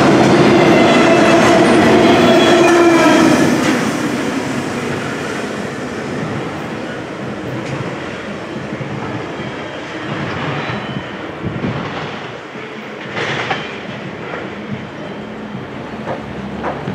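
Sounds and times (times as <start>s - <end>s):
train wheels clattering over rails: 0.0s - 16.9s.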